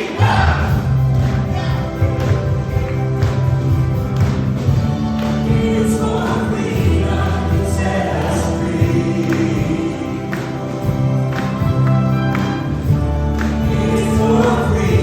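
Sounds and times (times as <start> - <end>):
group singing worship song: 0.0 - 15.0
instrumental backing with bass: 0.2 - 15.0.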